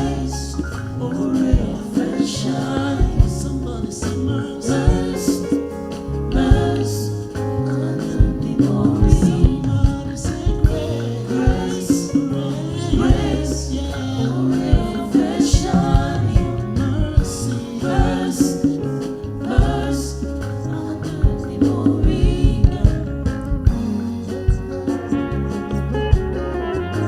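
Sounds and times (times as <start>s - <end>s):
band with bass and drums: 0.0s - 27.0s
gospel singing: 0.0s - 27.0s.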